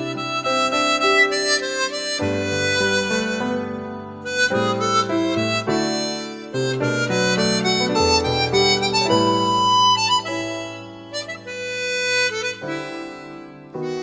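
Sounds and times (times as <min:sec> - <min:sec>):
instrumental music with reed melody: 0:00.0 - 0:14.0.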